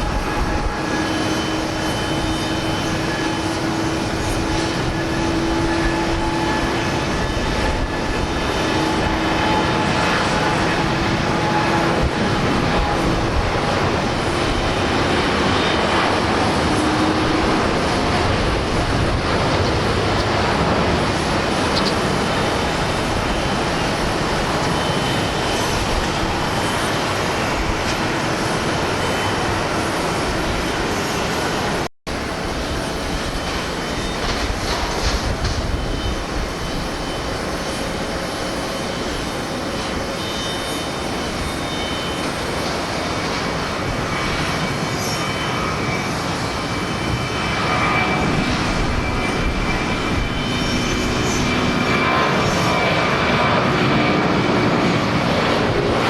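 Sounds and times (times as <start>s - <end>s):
wind buffeting microphone: 0.0s - 40.2s, 40.8s - 56.0s
jet engines roaring: 0.0s - 56.0s.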